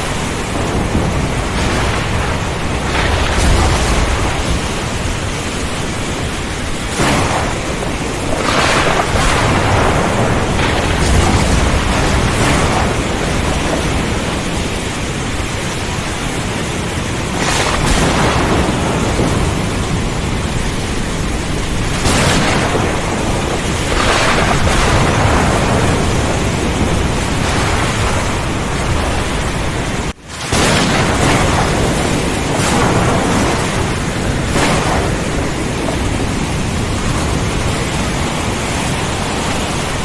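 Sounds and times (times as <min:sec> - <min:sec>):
heavy rain: 0:00.0 - 0:40.0
rolling thunder rumble: 0:00.0 - 0:40.0
strong wind: 0:00.0 - 0:40.0.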